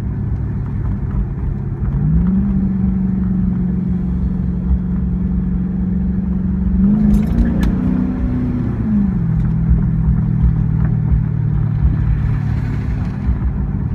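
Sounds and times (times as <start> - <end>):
car exhaust: 0.0 - 13.9.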